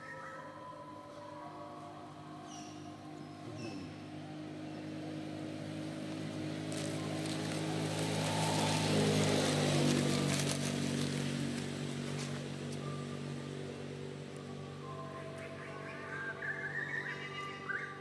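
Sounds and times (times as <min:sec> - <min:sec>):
motor vehicle engine approaching: 0:00.0 - 0:18.0.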